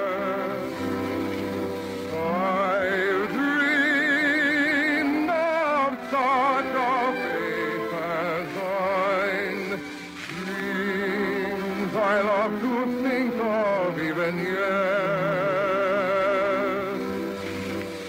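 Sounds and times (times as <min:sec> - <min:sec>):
operatic singing with vibrato: 0:00.0 - 0:18.0
orchestra playing: 0:00.0 - 0:18.0.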